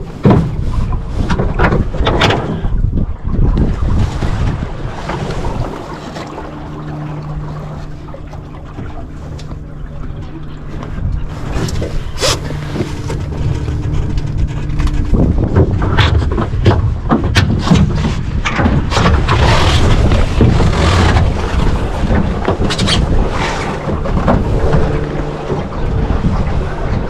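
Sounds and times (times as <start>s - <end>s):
water splashing against hull: 0.0s - 27.0s
wind buffeting microphone: 0.0s - 27.0s.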